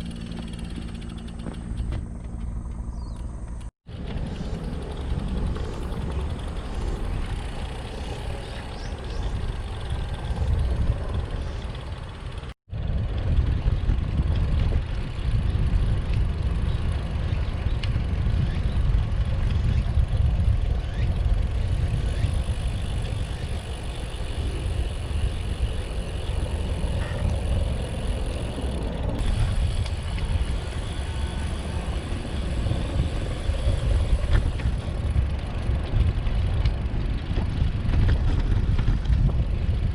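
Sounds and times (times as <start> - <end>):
bicycle road noise: 0.0 - 39.9
low wind rumble: 0.0 - 39.9.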